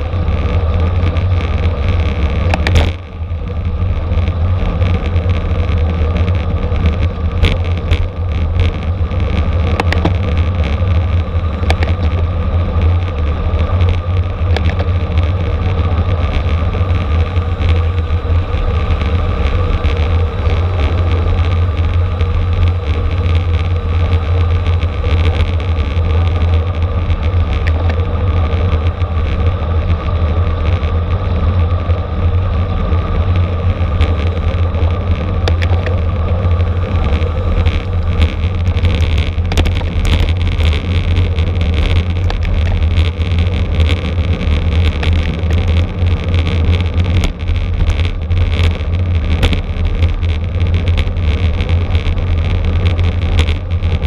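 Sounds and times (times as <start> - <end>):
road and tyre noise: 0.0 - 54.0
wind rumble on microphone: 0.0 - 54.0
small clicks: 1.0 - 3.0, 4.8 - 12.9, 13.6 - 15.6, 16.2 - 31.0, 33.8 - 54.0.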